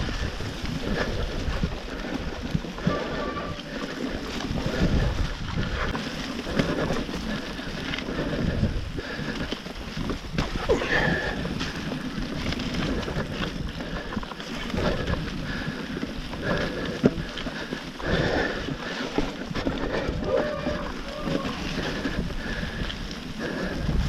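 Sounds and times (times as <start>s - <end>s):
bike knocking and rattling: 0.0s - 24.0s
bike tyres rolling: 0.0s - 24.0s
wind buffeting microphone: 0.0s - 24.0s.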